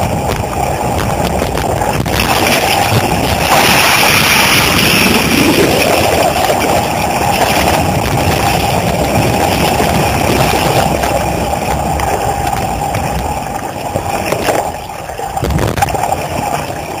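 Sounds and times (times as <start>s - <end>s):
muffled underwater water rush: 0.0s - 17.0s.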